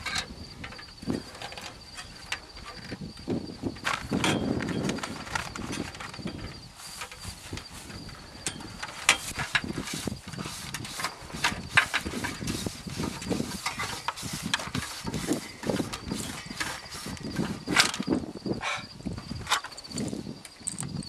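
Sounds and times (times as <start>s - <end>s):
hand tools clicking and knocking: 3.8s - 21.0s.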